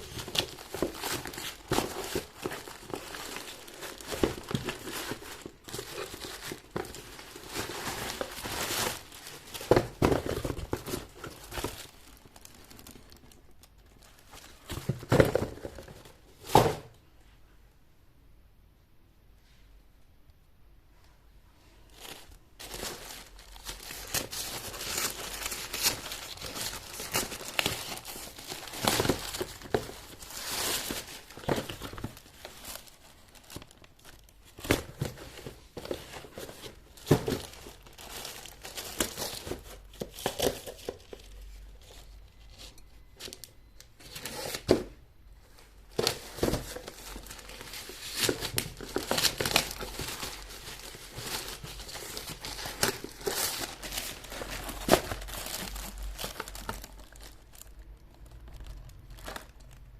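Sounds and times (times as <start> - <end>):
plastic packaging crinkling and tearing: 0.0 - 16.2, 21.9 - 45.0, 45.6 - 59.9.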